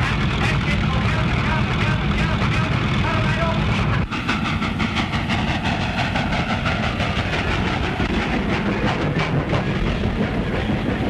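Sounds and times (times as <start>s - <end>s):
train clattering on rails: 0.0s - 11.0s.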